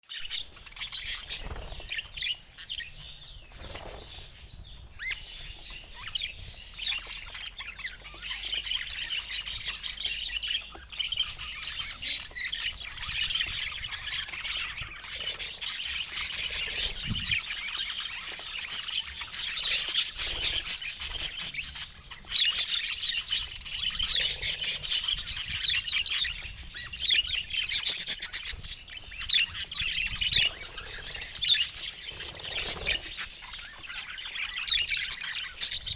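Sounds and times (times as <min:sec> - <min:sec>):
budgerigars chattering: 0:00.2 - 0:35.9.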